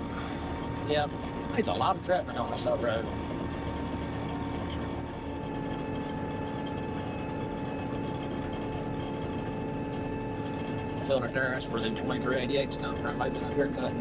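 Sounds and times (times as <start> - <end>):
diesel engine drone from cab: 0.0 - 14.0.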